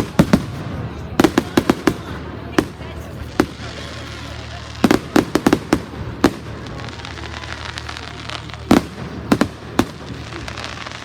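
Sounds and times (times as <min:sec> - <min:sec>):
fireworks bangs: 0:00.0 - 0:11.0
steady background noise: 0:00.0 - 0:11.0.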